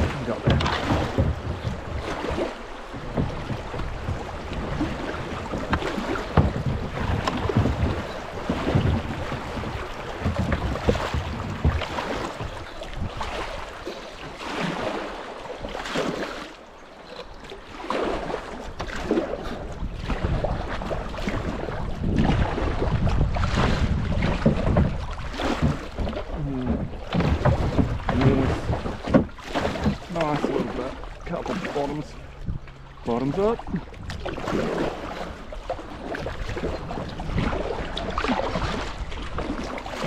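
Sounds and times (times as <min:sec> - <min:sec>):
paddle strokes splashing: 0:00.0 - 0:40.0
water running around hull: 0:00.0 - 0:40.0.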